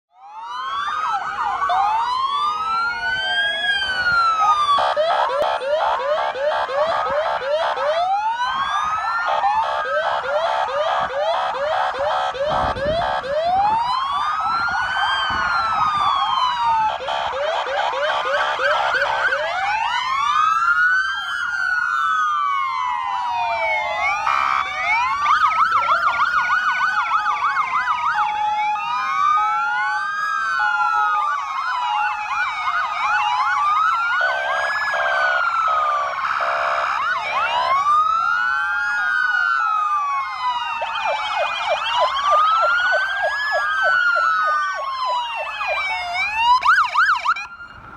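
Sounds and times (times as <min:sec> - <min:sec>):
emergency vehicle sirens wailing: 0:00.1 - 0:47.9.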